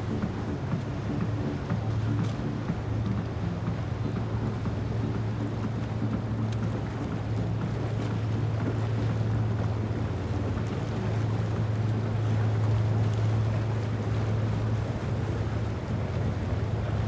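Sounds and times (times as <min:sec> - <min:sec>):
motorboat engines humming: 0:00.0 - 0:17.0
water noise: 0:00.0 - 0:17.0.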